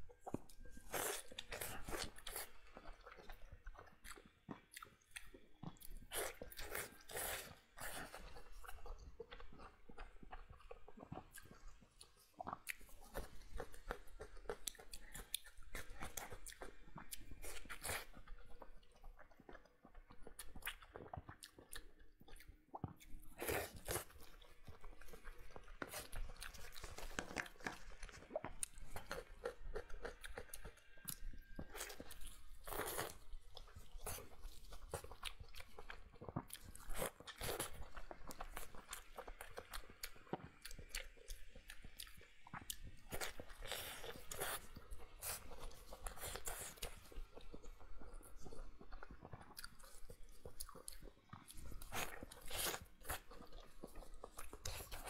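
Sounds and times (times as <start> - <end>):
person chewing and biting: 0.2 - 19.6, 20.2 - 55.0.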